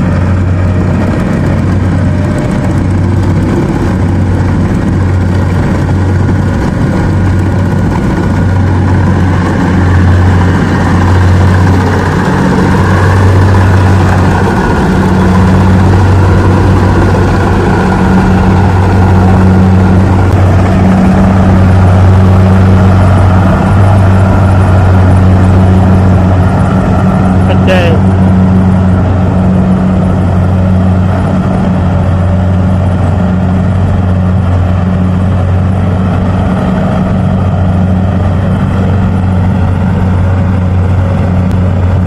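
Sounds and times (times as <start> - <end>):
diesel engine humming: 0.0 - 42.0.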